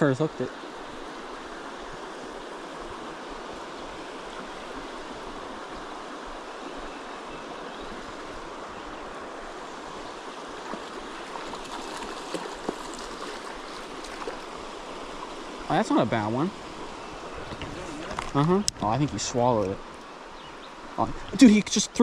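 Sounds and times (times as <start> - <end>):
creek water running: 0.0 - 22.0.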